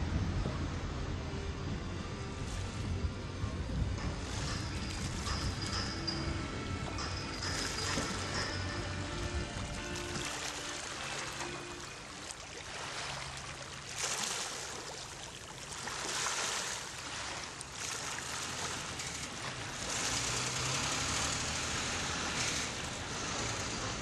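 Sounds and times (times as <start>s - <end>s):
low steady hum: 0.0s - 20.0s
water washing and lapping: 3.9s - 24.0s.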